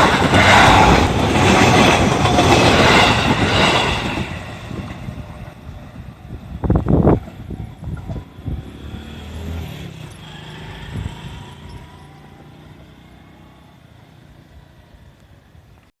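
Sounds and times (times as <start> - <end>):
low train rumble: 0.0 - 15.8.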